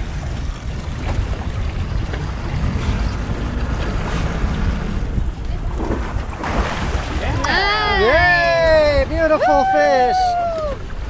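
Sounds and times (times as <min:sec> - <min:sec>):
boat engine low hum: 0:00.0 - 0:11.0
water splashing at hull: 0:00.0 - 0:11.0
wind rumbling on microphone: 0:00.0 - 0:11.0.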